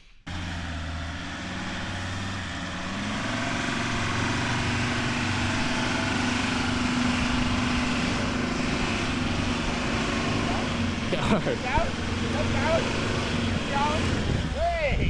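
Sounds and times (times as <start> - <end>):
engine running: 0.2 - 15.0.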